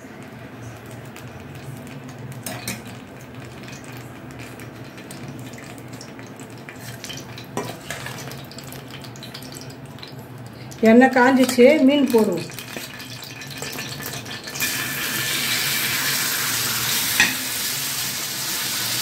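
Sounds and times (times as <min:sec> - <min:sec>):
oil sizzling on a hot griddle: 0:00.6 - 0:19.0.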